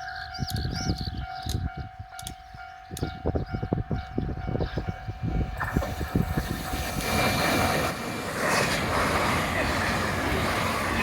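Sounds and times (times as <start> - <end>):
approaching train rushing: 1.7 - 11.0.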